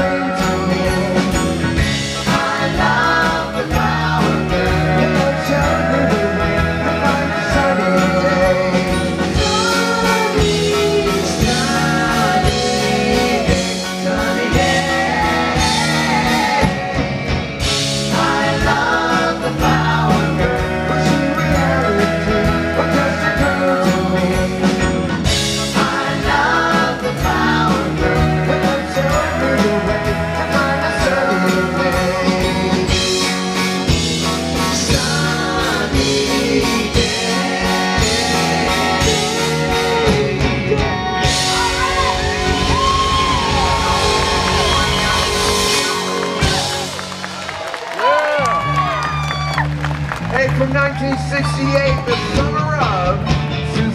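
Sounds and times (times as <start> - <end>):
vocal harmonies singing: 0.0 - 47.2
live pop-rock band playing: 0.0 - 53.9.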